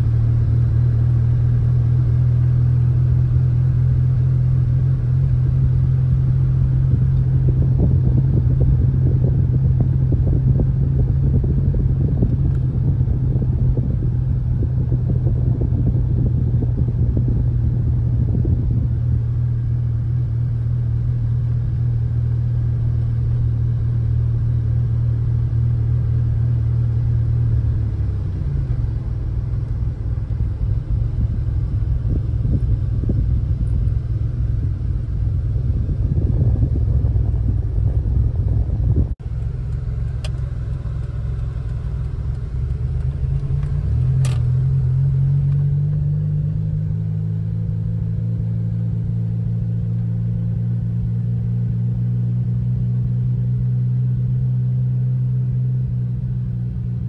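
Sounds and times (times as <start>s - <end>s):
car engine hum from inside cabin: 0.0s - 57.0s.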